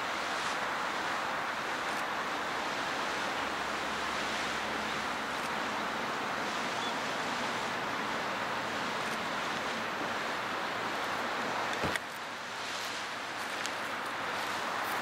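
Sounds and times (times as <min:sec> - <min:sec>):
geyser boiling and splashing: 0:00.0 - 0:15.0.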